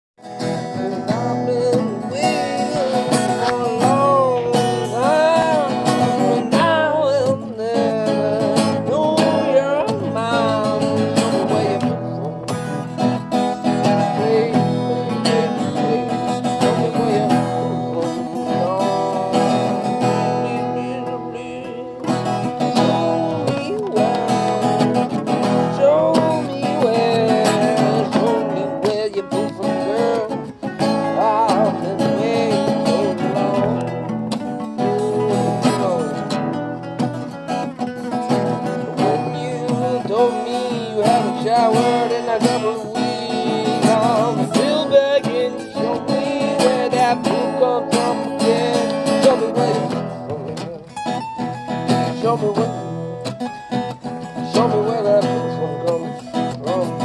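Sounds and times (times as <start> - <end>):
acoustic guitars strummed and picked: 0.2 - 57.0
person singing: 0.2 - 57.0.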